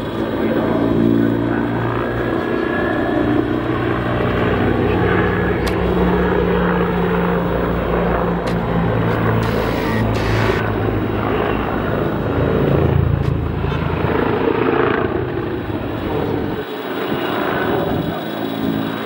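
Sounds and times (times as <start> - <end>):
helicopter drone: 0.0 - 19.0.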